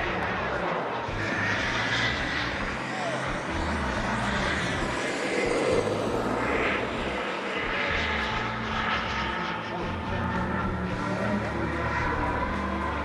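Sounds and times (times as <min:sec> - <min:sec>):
model jet turbine rush: 0:00.0 - 0:13.0.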